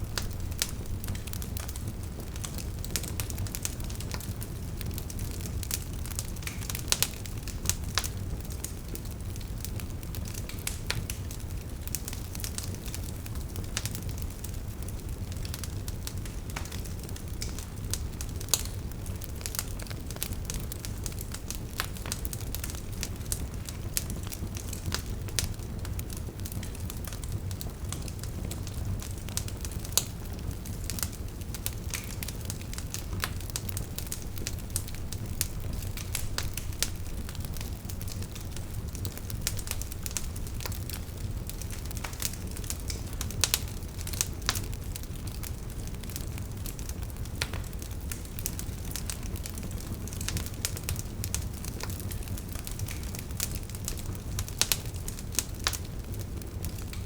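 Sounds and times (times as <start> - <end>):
fire low rumble: 0.0 - 57.0
sharp pops of burning wood: 0.0 - 57.0
wood fire crackling: 0.0 - 57.0.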